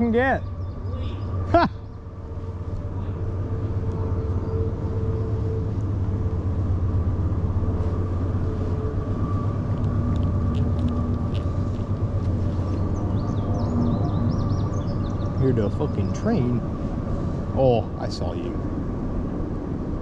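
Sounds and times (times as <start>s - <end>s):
faint steady hums: 0.0s - 20.0s
train rumbling past: 0.0s - 20.0s.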